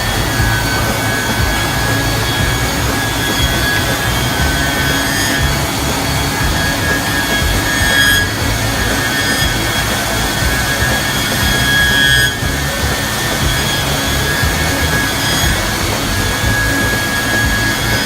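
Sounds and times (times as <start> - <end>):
spindle whine: 0.0 - 18.0
wood cutting noise: 0.0 - 18.0.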